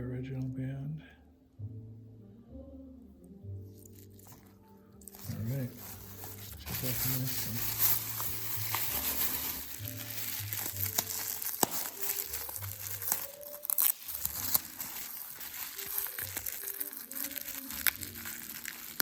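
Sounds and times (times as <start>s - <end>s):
packing material crinkling: 3.8s - 19.0s.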